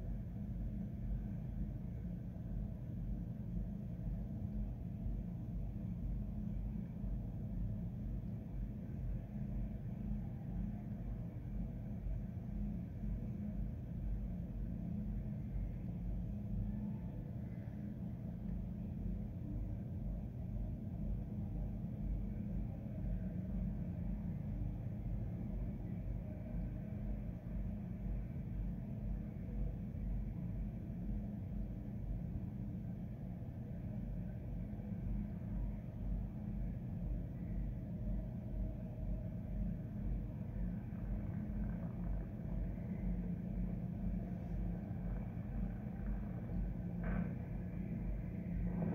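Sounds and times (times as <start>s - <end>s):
steady low rumble: 0.0s - 48.9s.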